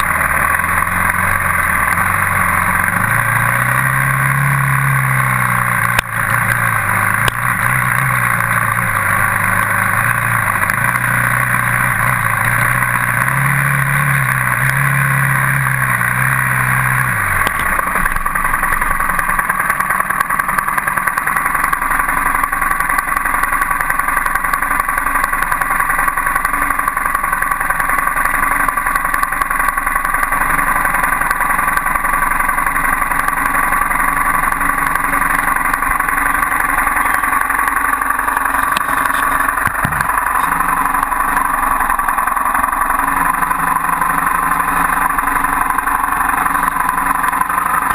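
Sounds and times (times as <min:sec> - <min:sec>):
dirt bike engine revving: 0:00.0 - 0:47.9
loud high-pitched steady noise: 0:00.0 - 0:47.9.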